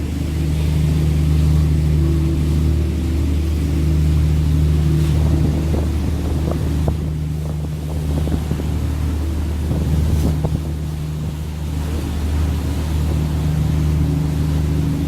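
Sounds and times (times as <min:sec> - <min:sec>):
boat engine droning: 0:00.0 - 0:15.0
wind noise on microphone: 0:00.0 - 0:15.0.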